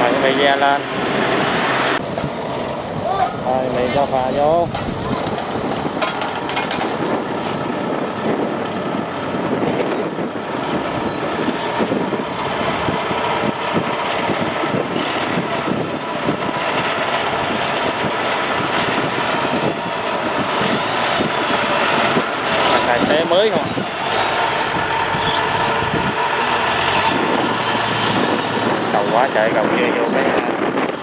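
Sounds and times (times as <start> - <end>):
diesel engine clattering: 0.0 - 31.0.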